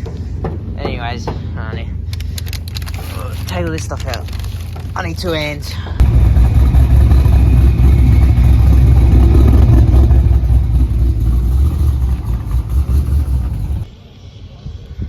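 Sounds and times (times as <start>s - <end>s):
car engine rumbling: 0.0s - 13.9s.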